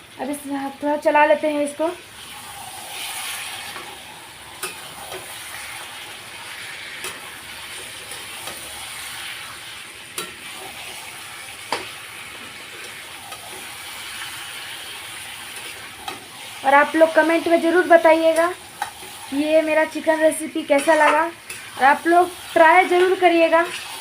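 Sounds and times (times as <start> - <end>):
chicken sizzling in oil: 0.0 - 24.0.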